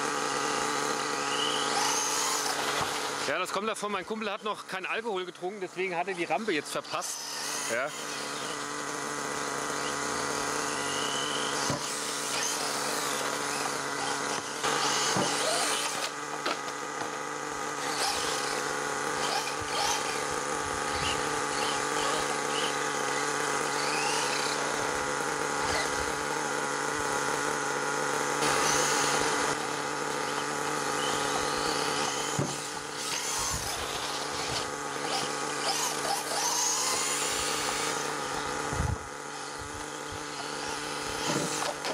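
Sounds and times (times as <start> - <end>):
electric motor whirring: 0.0 - 41.9
nitro engine idling: 7.7 - 41.9.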